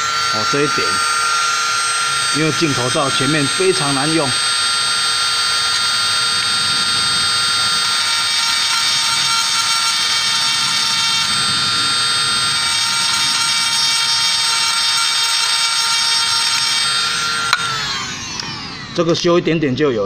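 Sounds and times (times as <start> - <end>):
bit grinding metal: 0.0 - 19.4
rotary tool whining: 0.0 - 19.8.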